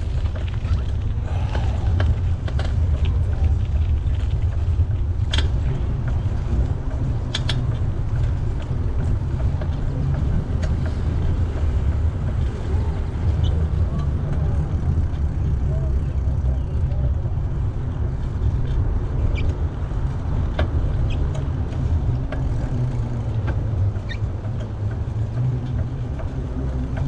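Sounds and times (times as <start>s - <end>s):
bicycle clicks and creaks: 0.0s - 27.0s
steady low rumble: 0.0s - 27.0s.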